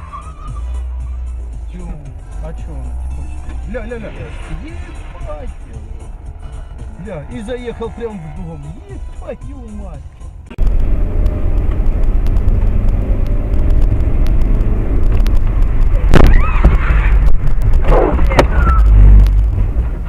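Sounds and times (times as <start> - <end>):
car engine and road noise rumble: 0.0 - 20.0.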